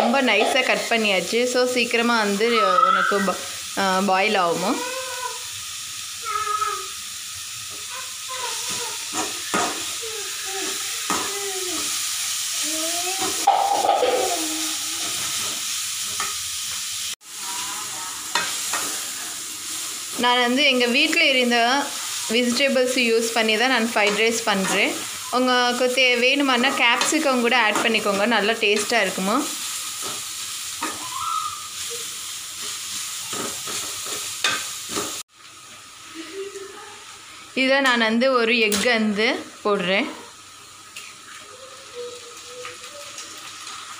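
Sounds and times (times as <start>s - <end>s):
vegetables sizzling in hot oil: 0.0s - 43.9s.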